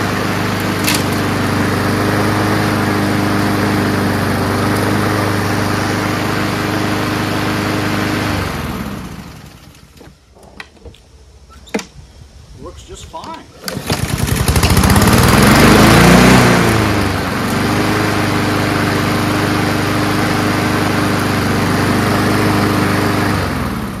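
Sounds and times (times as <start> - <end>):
lawn mower engine running: 0.0 - 11.5, 13.0 - 24.0.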